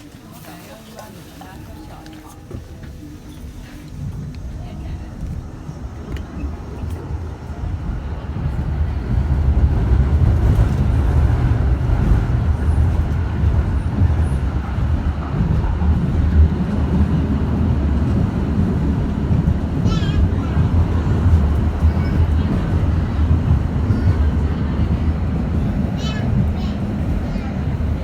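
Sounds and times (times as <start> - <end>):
tram rumbling: 0.0 - 28.0.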